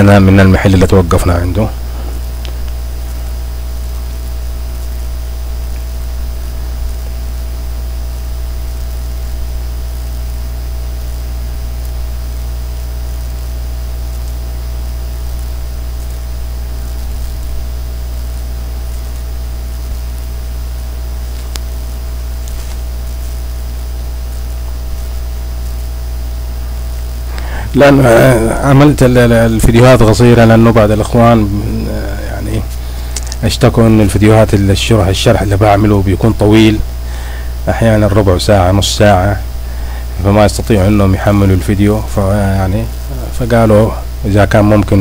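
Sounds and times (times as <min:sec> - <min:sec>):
faint hiss: 0:00.0 - 0:45.0
high whine: 0:00.0 - 0:45.0
low electrical hum: 0:00.0 - 0:45.0.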